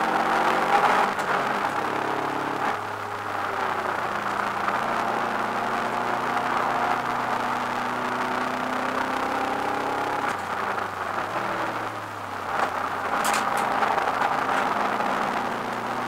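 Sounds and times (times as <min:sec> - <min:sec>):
car engine running hard: 0:00.0 - 0:16.0
road noise rushing: 0:00.0 - 0:16.0.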